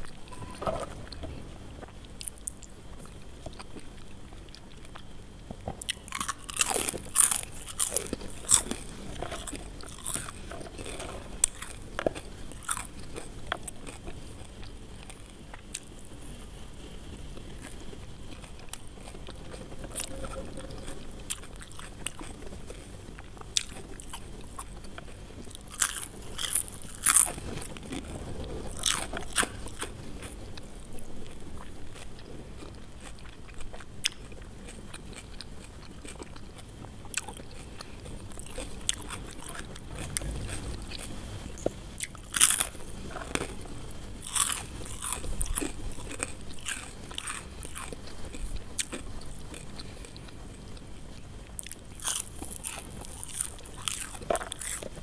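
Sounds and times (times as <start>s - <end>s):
soft chewing: 0.0s - 55.0s
crunching fried potato sticks: 1.8s - 55.0s.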